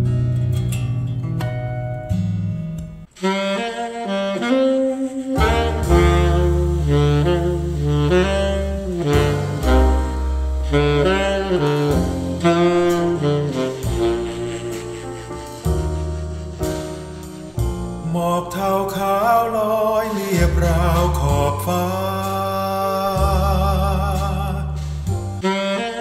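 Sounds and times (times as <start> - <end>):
low bass notes: 0.0 - 3.1, 5.4 - 25.4
saxophone melody: 3.0 - 26.0.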